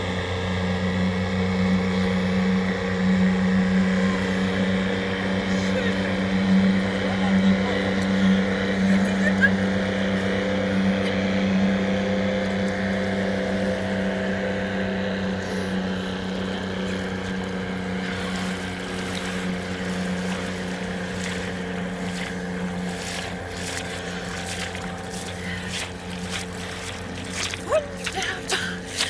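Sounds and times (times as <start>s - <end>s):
outboard motor running: 0.0s - 29.0s
splashes of wading: 0.2s - 29.0s.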